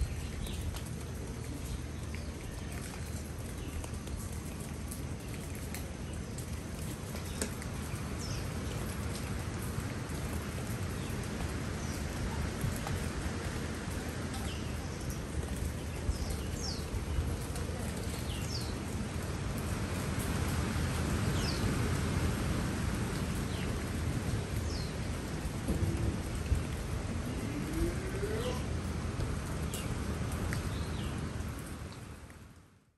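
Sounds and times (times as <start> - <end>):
rain falling on leafy plants: 0.0 - 32.9.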